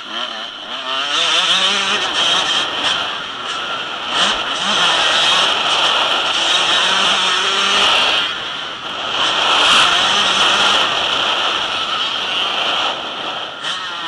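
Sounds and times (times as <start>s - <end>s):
motorcycle engines revving past: 0.0s - 14.0s.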